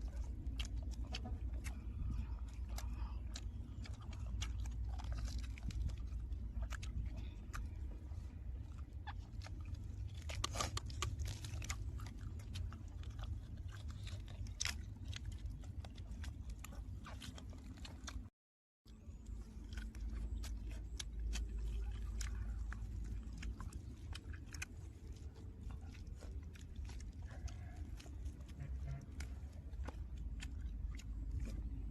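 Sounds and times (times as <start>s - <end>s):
chewing chicken: 0.0s - 18.3s, 18.9s - 31.9s
low background rumble: 0.0s - 18.3s, 18.9s - 31.9s.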